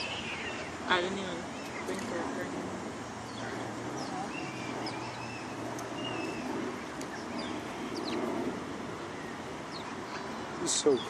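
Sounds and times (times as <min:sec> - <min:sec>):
low background hum: 0:00.0 - 0:11.0
small birds chirping: 0:00.0 - 0:11.0.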